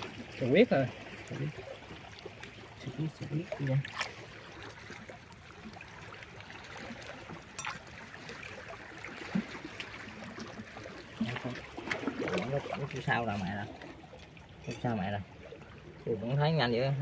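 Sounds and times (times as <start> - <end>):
seawater washing among rocks: 0.0 - 17.0.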